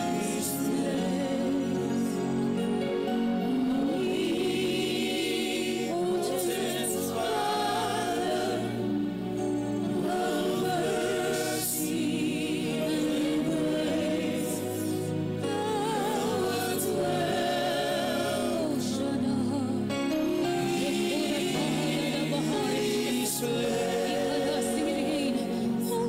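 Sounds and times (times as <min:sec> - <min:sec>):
choir voices: 0:00.0 - 0:26.0
sustained accompaniment: 0:00.0 - 0:26.0.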